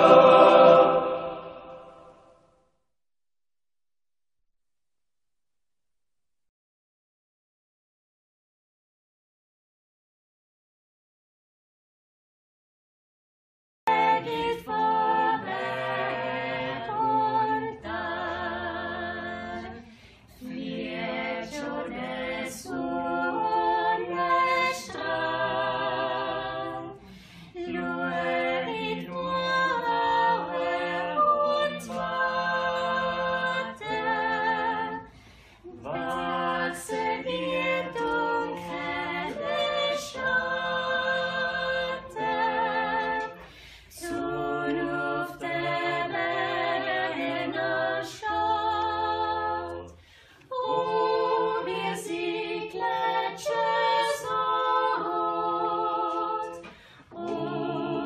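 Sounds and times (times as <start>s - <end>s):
choir singing a cappella: 0.0s - 2.4s, 13.9s - 58.0s.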